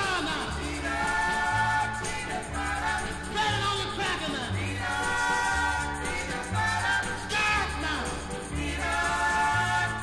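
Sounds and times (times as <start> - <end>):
background song with bass line: 0.0 - 10.0.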